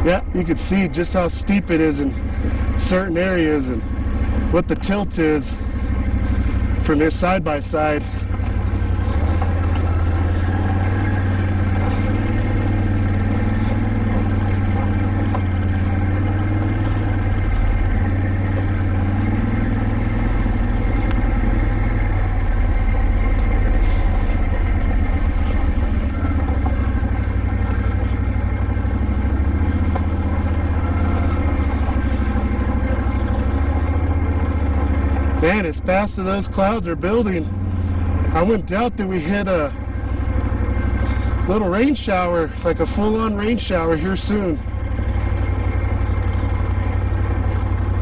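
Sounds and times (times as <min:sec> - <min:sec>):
atv engine running: 0:00.0 - 0:48.0.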